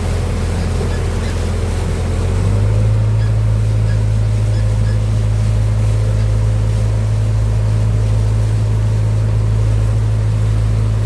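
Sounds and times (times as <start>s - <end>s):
backhoe diesel engine humming: 0.0s - 11.0s.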